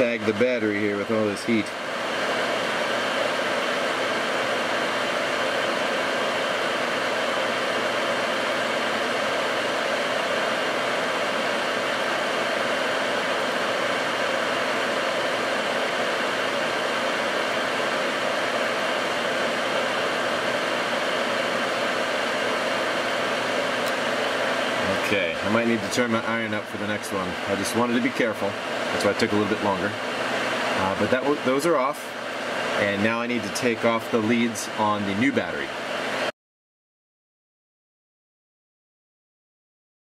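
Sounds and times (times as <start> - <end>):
extractor fan running: 0.0 - 36.3.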